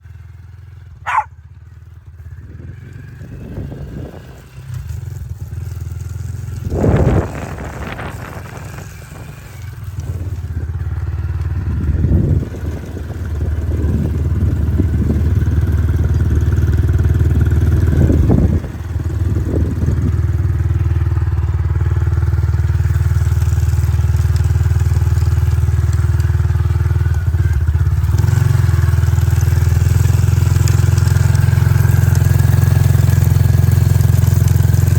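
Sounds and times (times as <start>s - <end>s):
motorbike engine revving: 0.0s - 34.9s.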